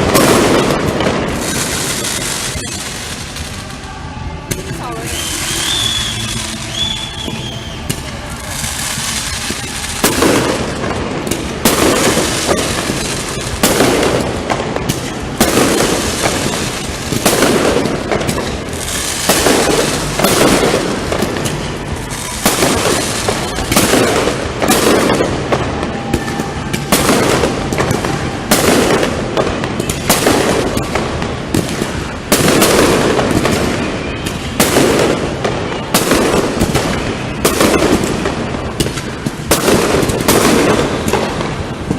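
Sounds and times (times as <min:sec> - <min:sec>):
fireworks bursts and bangs: 0:00.0 - 0:41.9.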